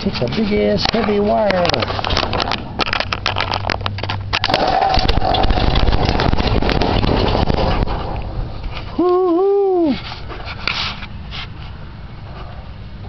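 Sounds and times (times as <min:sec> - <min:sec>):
engine running rumble: 0:00.0 - 0:13.0.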